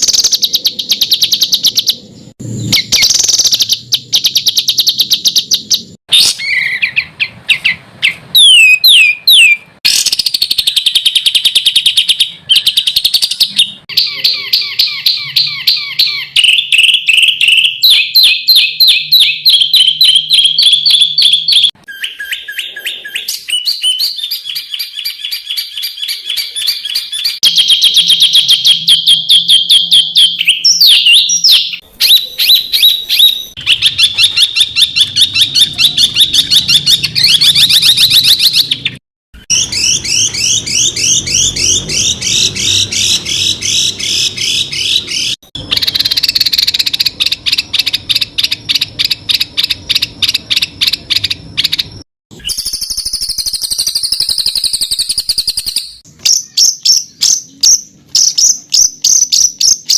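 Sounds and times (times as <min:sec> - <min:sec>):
songbird rapid high notes: 0:00.0 - 0:59.9.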